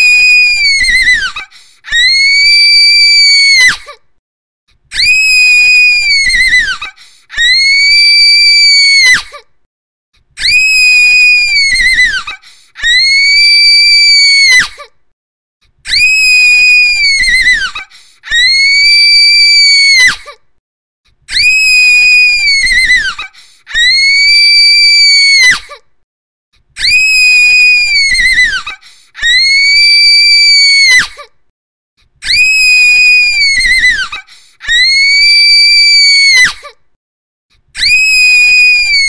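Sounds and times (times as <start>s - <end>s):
girl screaming shrilly: 0.0s - 4.0s, 4.9s - 9.4s, 10.4s - 14.9s, 15.8s - 20.4s, 21.3s - 25.8s, 26.8s - 31.3s, 32.2s - 36.8s, 37.8s - 39.0s.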